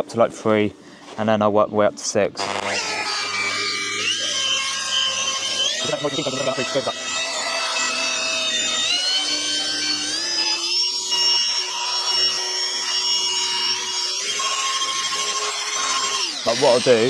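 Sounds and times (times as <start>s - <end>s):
rotary polisher motor whine: 2.4s - 17.0s.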